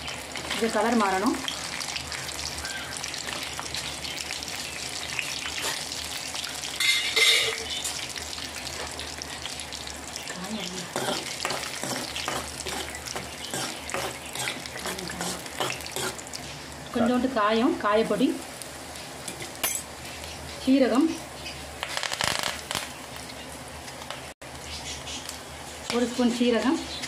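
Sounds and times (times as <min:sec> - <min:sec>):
nuts sizzling in oil: 0:00.0 - 0:27.0.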